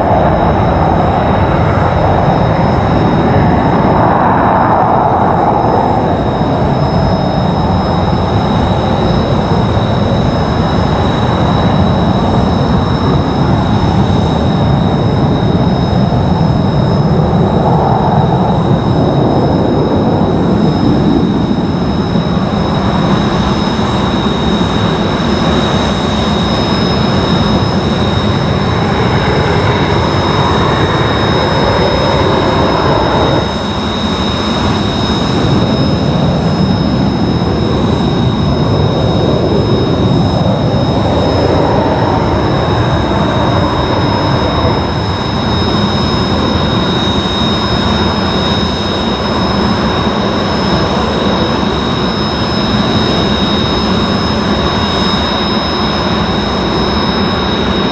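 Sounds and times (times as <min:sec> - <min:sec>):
jet engine roaring with high whine: 0:00.0 - 0:57.9.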